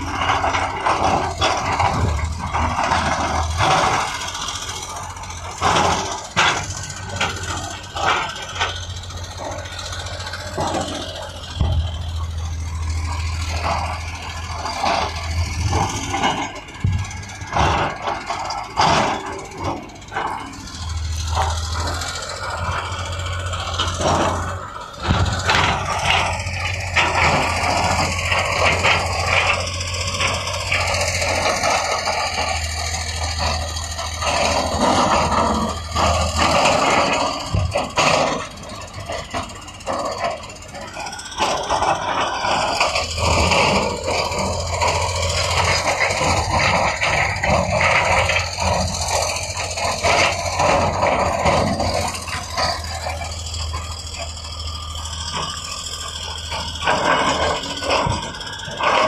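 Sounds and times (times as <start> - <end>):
diesel engine droning: 0.0 - 59.0
rock and metal scraping: 0.0 - 59.0.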